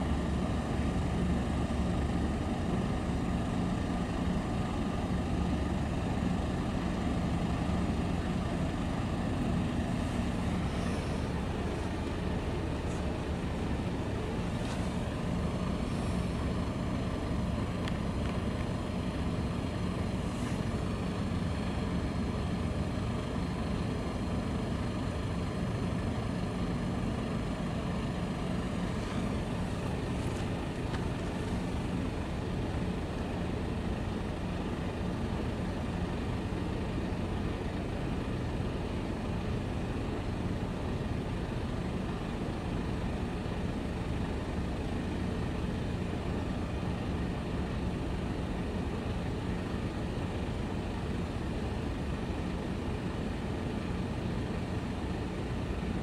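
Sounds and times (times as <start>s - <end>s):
distant engines rumbling: 0.0s - 56.0s.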